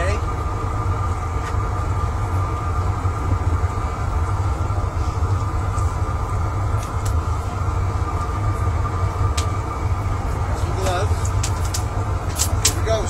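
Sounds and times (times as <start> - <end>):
propane burner rumbling: 0.0 - 13.0.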